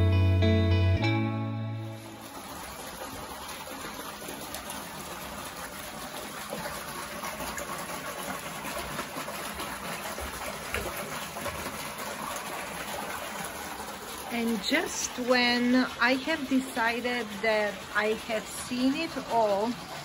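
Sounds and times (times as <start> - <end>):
water gushing into a pond: 1.8 - 20.0.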